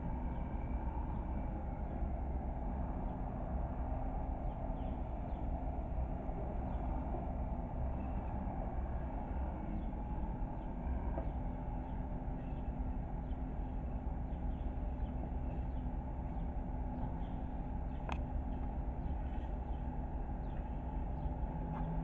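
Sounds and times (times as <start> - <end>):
loader engine running steadily: 0.0 - 22.0.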